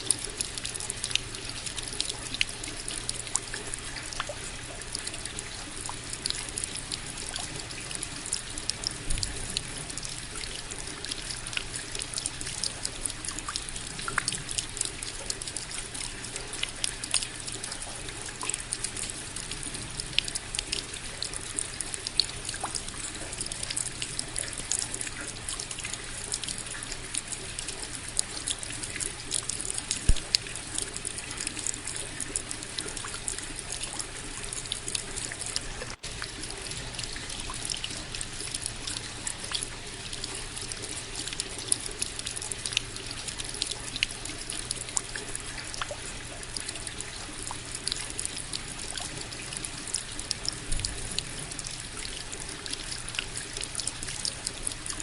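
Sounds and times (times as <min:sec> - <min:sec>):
raindrops ticking: 0:00.0 - 0:55.0.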